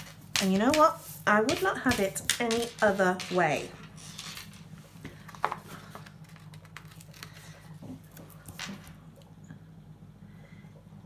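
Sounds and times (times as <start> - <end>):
paper stickers rustling and tapping: 0.0 - 8.9
steady low hum: 0.0 - 11.0.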